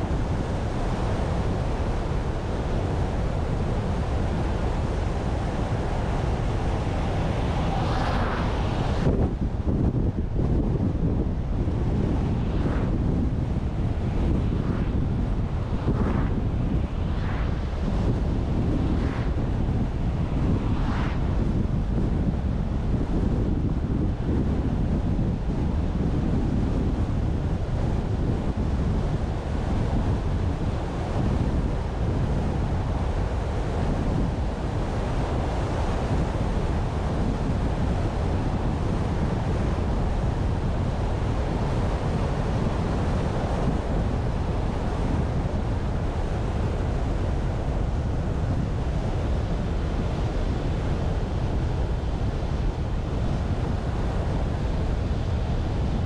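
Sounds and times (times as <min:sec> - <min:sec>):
car road and tyre rumble: 0:00.0 - 0:56.0
wind noise on microphone: 0:00.0 - 0:56.0.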